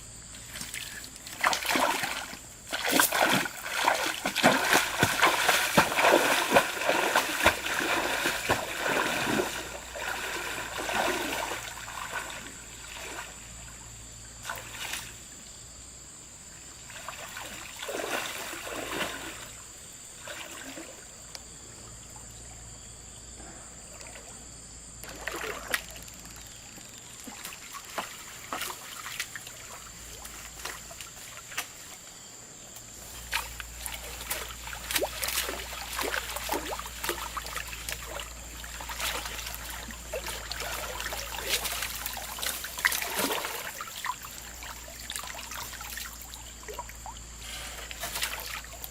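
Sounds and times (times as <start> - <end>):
river water trickling: 0.1 - 48.9
water splashes: 0.4 - 13.7, 16.8 - 21.2, 25.0 - 32.0, 33.1 - 48.9.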